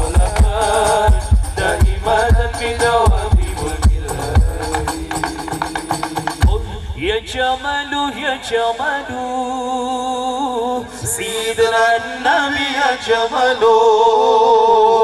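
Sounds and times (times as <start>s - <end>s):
men singing over loudspeakers: 0.0s - 15.0s.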